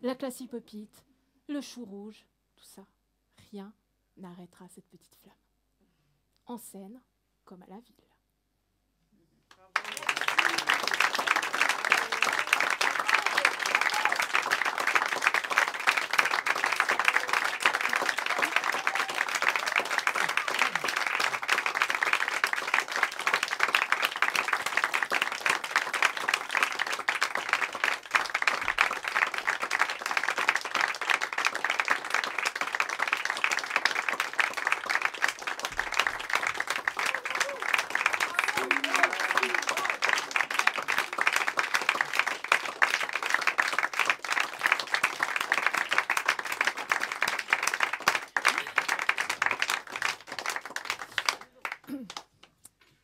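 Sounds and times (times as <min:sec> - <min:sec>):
audience applauding: 0:09.6 - 0:52.4.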